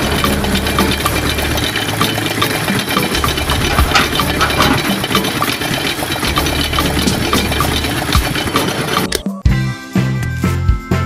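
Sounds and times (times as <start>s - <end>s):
small engine idling with ticks: 0.0s - 9.4s.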